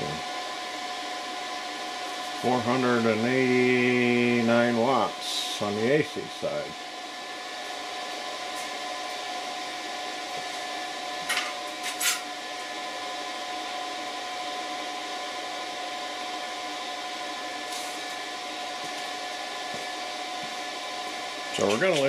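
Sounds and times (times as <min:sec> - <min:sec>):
cooling fans whirring: 0:00.0 - 0:22.0.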